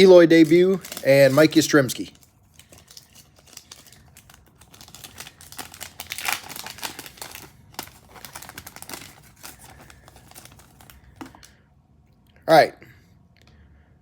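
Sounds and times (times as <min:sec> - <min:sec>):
card pack wrapper crinkling: 0:00.0 - 0:11.5.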